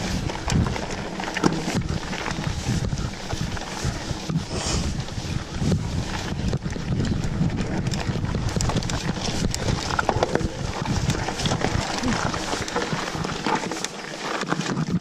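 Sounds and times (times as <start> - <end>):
bike rattling over roots: 0.0 - 15.0
tyres rolling over dirt: 0.0 - 15.0.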